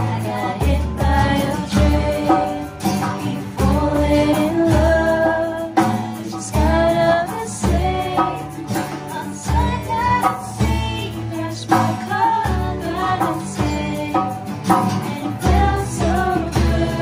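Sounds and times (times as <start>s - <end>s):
hand drum strikes: 0.0s - 17.0s
strummed acoustic guitars: 0.0s - 17.0s
women singing a pop song: 0.0s - 17.0s.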